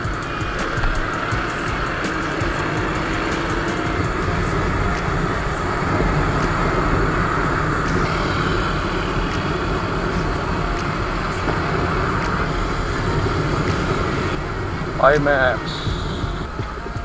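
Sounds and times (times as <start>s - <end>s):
motorcycle engine and road noise: 0.0s - 17.0s
wind rushing over microphone: 0.0s - 17.0s.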